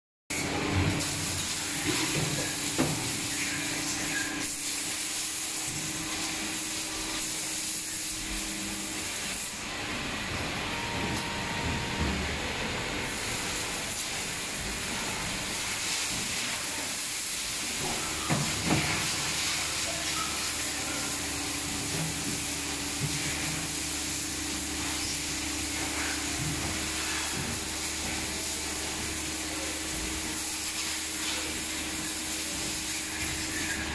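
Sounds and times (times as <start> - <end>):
factory machinery hiss and hum: 0.3 - 33.9.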